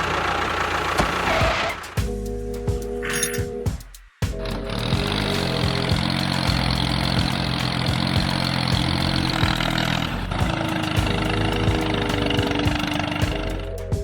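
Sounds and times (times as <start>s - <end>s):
engine humming: 0.0s - 3.7s, 4.3s - 14.0s.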